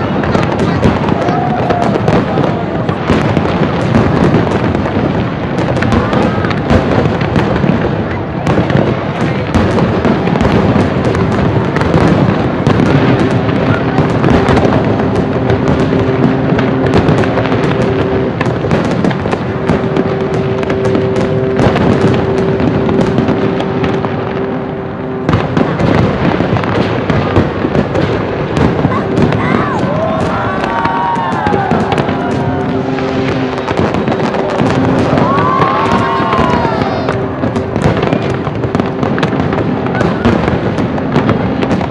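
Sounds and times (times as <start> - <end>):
fireworks crackling and popping: 0.0 - 41.9.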